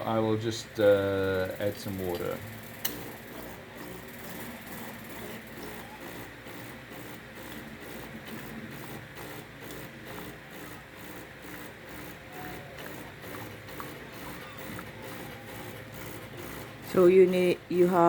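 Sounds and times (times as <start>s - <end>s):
espresso machine pulsing hum: 0.0s - 18.0s.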